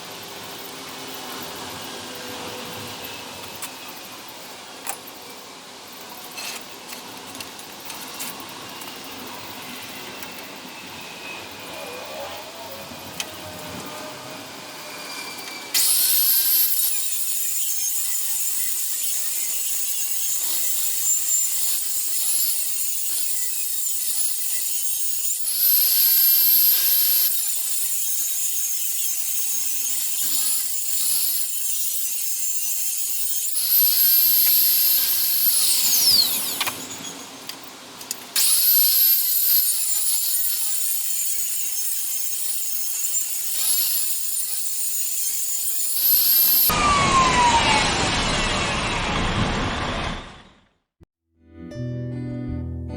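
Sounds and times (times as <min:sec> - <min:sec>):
electric power tool whining: 0:07.8 - 0:50.7.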